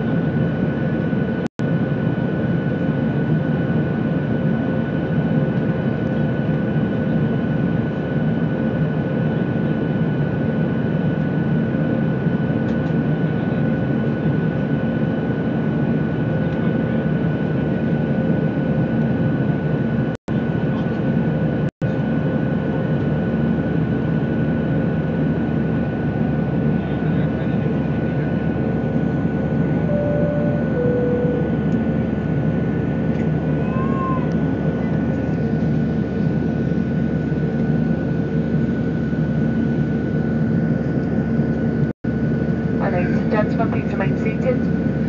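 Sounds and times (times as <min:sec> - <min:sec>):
jet engines heard from cabin: 0:00.0 - 0:45.0
steady engine whine: 0:00.0 - 0:45.0.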